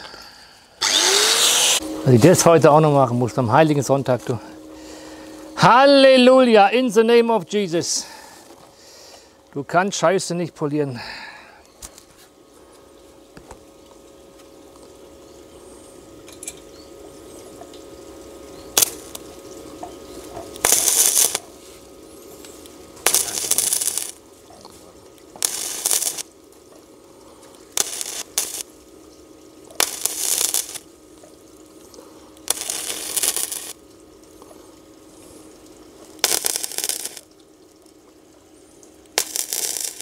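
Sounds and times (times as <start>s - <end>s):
arc welder crackling: 0.0s - 9.6s, 16.0s - 40.0s
steady low hum: 0.0s - 40.0s.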